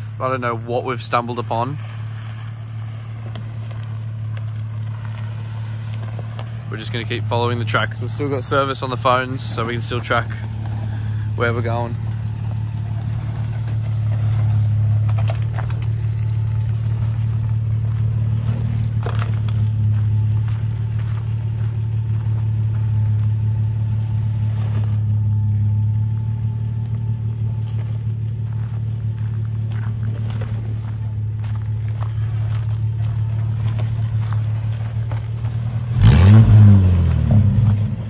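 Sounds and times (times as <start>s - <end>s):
engine running at low revs: 0.0s - 38.0s.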